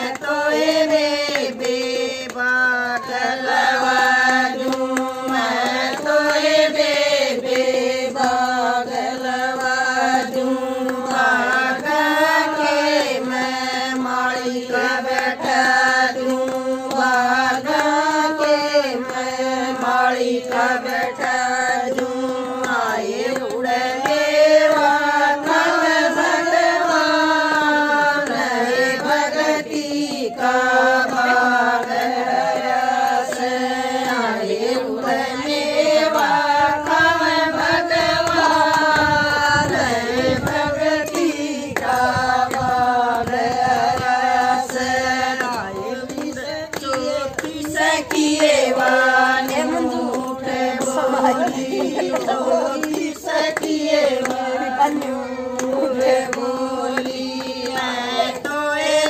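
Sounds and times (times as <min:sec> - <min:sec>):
hands clapping in time: 0:00.0 - 0:59.0
women singing in unison: 0:00.0 - 0:59.0.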